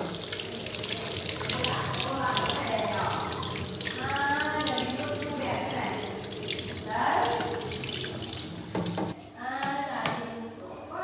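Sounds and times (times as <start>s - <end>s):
tap water running into sink: 0.0s - 9.2s.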